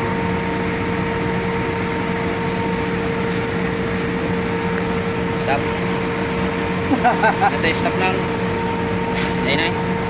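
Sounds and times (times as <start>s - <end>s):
machine hum with whine: 0.0s - 10.0s.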